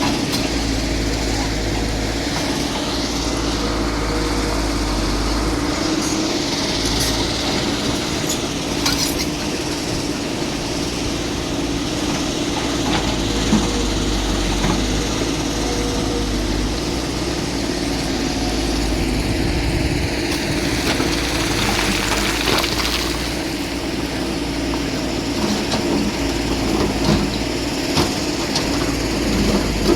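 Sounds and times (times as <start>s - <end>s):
heavy machine engine running: 0.0s - 29.9s.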